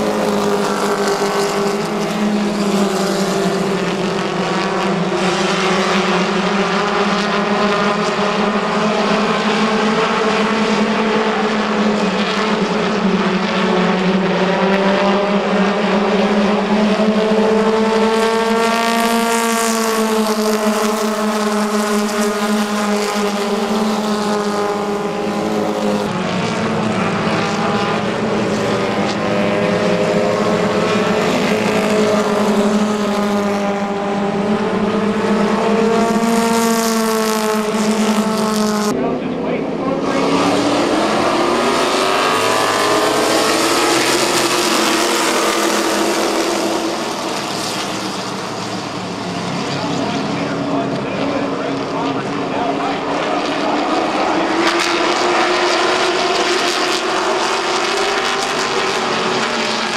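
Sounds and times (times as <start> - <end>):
race car engines running: 0.0 - 59.9.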